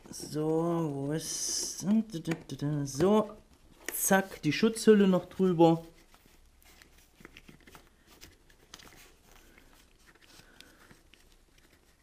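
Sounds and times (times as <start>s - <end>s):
faint clicks and rustles: 0.0s - 12.0s.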